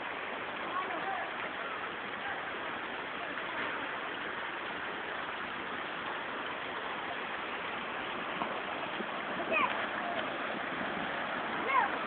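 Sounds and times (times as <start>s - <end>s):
waterfall splashing on rock: 0.0s - 12.0s.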